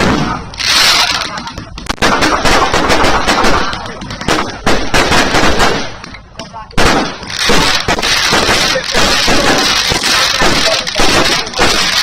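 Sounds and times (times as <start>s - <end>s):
fireworks cracking in volleys: 0.0s - 12.0s.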